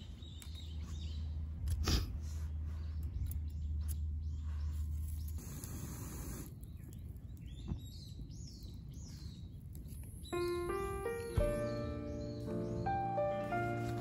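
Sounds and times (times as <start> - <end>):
birds chirping: 0.0 - 1.6, 2.2 - 14.0.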